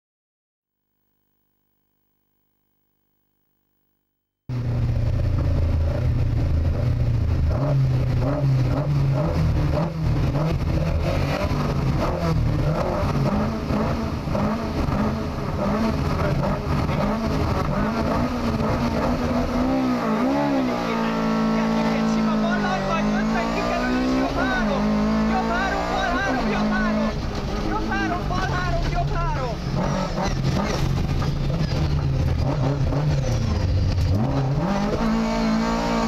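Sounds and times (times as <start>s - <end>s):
car engine with throttle blips: 0.8s - 36.0s.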